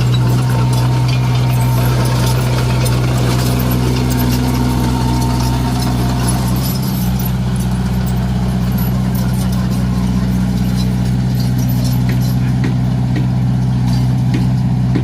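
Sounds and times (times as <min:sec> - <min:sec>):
bulldozer diesel engine humming: 0:00.0 - 0:15.0.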